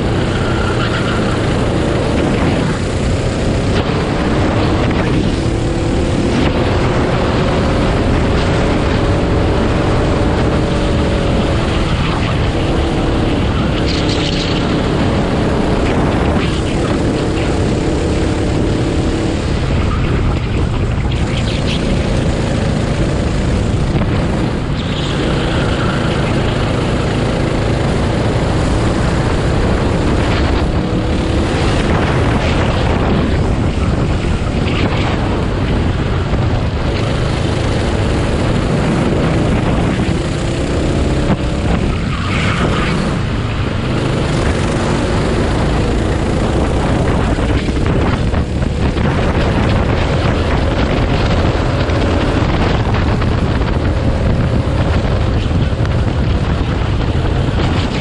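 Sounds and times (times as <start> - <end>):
go-kart engine revving: 0.0 - 20.3, 21.0 - 58.0
wind noise on microphone: 0.0 - 58.0.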